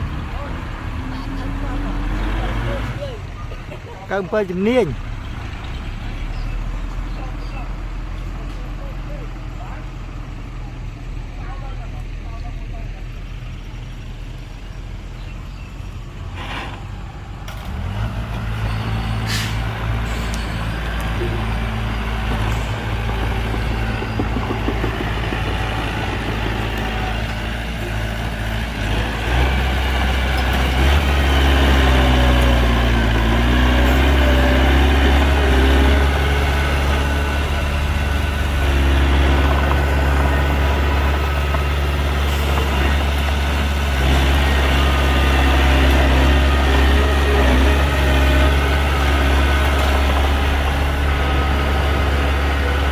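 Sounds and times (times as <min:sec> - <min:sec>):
heavy diesel engines under load: 0:00.0 - 0:52.9.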